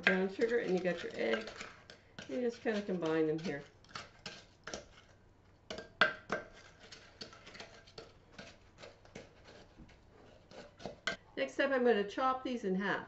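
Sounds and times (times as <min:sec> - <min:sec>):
wooden spoon scraping glass bowl: 0:00.0 - 0:11.2.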